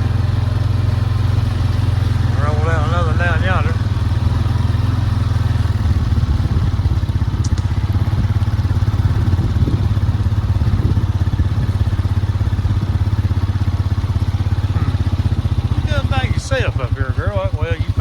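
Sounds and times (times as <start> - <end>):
farm vehicle engine droning: 0.0 - 18.0.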